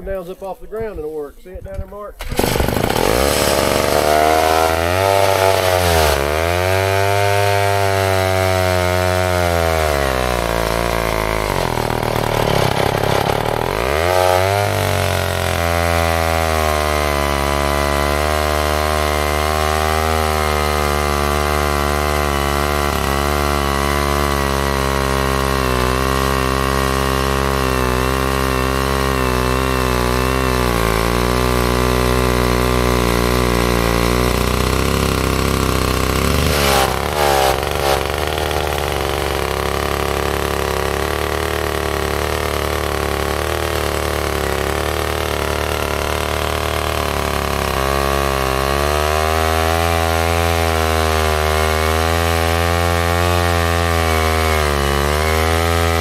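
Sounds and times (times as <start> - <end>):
chainsaw engine cutting log: 2.2 - 56.0.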